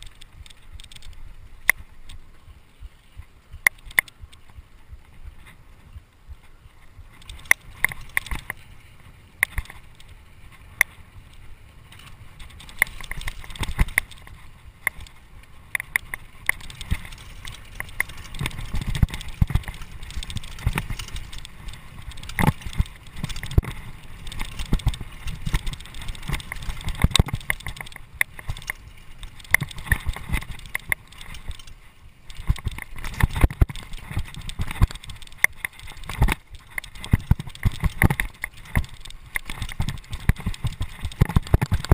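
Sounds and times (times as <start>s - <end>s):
bike rattling over bumps: 0.0s - 41.9s
tyres rumbling on dirt: 7.0s - 41.9s.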